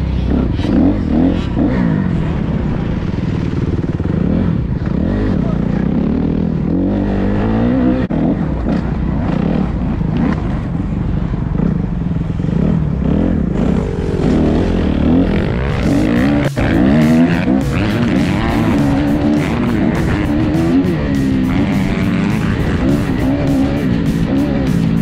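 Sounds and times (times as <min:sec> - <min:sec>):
motocross bike engine revving: 0:00.0 - 0:10.7, 0:11.5 - 0:25.0.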